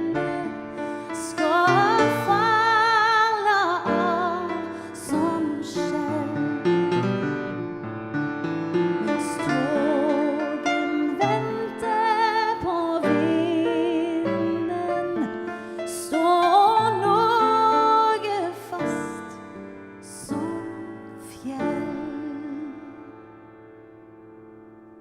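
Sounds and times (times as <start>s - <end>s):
woman singing with vibrato: 0.0s - 6.5s, 9.0s - 19.4s, 20.0s - 23.2s
piano accompaniment: 0.0s - 25.0s.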